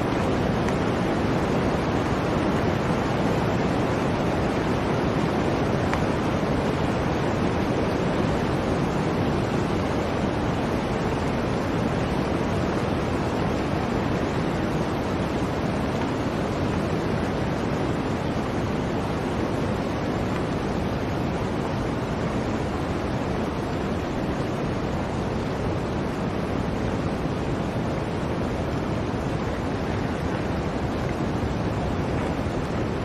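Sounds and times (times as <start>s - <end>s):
blizzard wind blowing: 0.0s - 33.0s.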